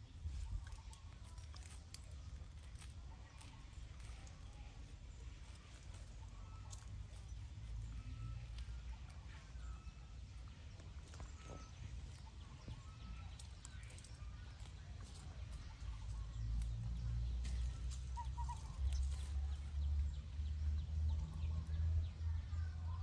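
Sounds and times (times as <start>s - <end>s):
leaves and twigs rustling: 0.0s - 21.7s.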